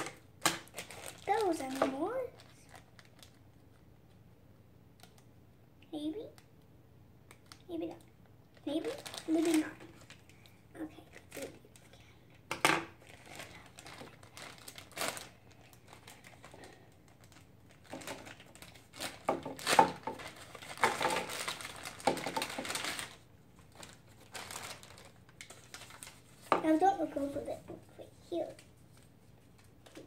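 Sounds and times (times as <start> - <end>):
plastic wrapper crinkling: 0.0 - 3.9, 7.3 - 12.0, 12.9 - 27.6, 28.3 - 30.0.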